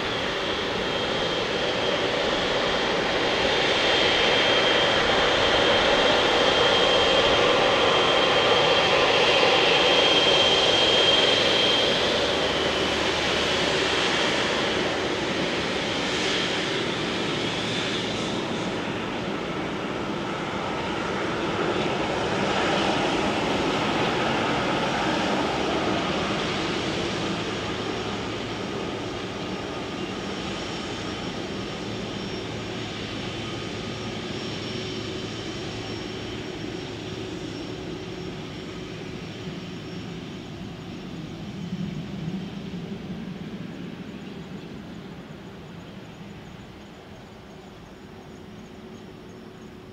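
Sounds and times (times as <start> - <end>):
jet engines idling with whine: 0.0 - 49.9.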